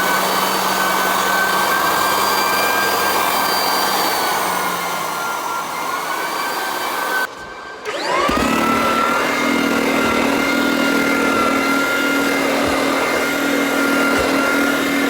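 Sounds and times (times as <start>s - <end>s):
floor machine motor whining: 0.0s - 15.0s.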